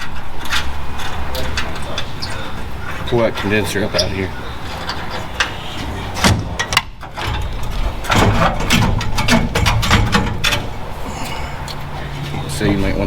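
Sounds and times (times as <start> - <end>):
metal parts clanking and rattling: 0.0 - 13.0.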